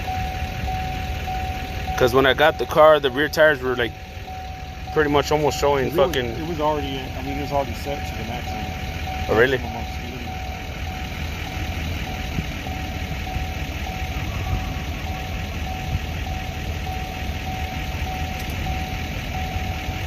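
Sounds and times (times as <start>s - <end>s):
car engine idling: 0.0s - 20.0s
thin engine whine: 0.0s - 20.0s.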